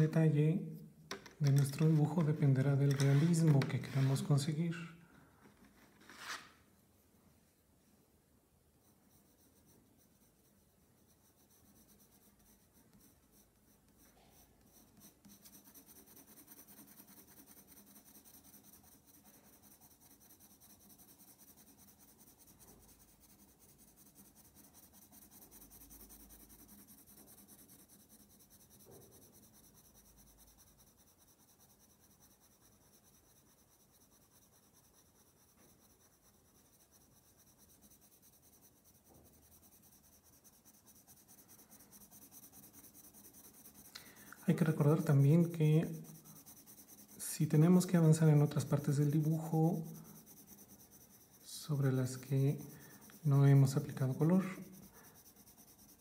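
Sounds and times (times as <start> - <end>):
pencil scratching on paper: 1.4 - 4.9, 5.7 - 6.5, 8.7 - 56.0.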